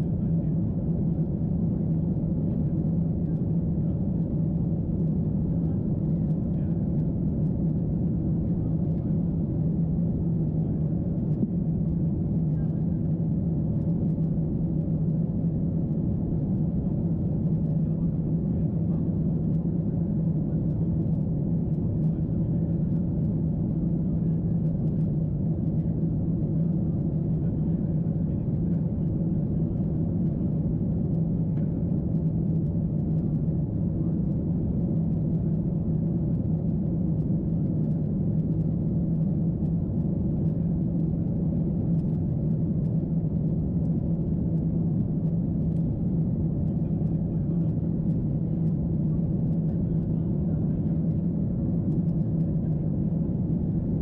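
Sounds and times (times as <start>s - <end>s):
airplane cabin drone: 0.0s - 54.0s
constant low hum: 0.0s - 54.0s.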